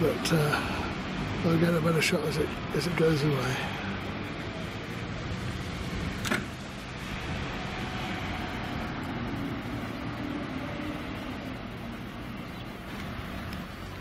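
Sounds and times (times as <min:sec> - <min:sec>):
railcar diesel engines running: 0:00.0 - 0:14.0.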